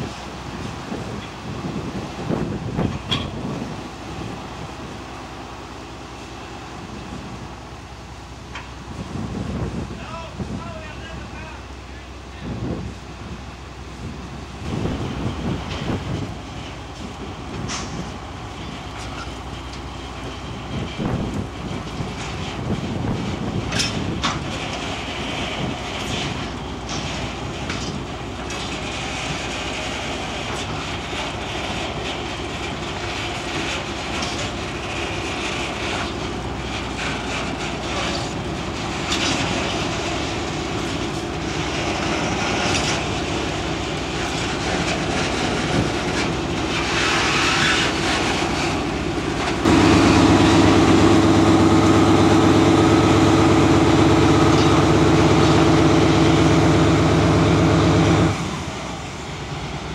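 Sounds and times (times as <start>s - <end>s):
diesel locomotive running: 0.0s - 59.9s.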